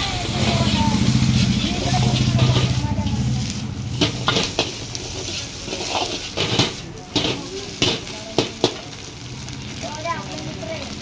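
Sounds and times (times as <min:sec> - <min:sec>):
ladle clanking against wok: 0:00.0 - 0:09.1
food sizzling: 0:00.0 - 0:11.0.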